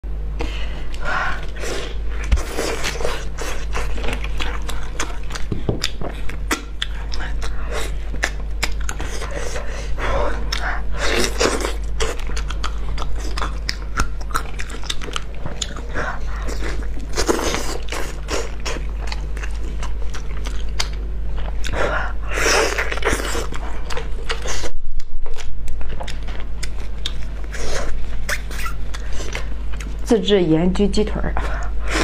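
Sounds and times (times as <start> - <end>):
steady low hum: 0.0 - 32.0
biting and chewing: 0.9 - 30.1.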